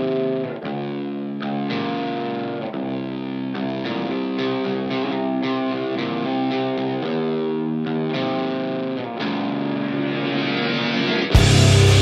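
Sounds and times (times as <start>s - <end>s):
distorted electric guitar chords: 0.0s - 12.0s.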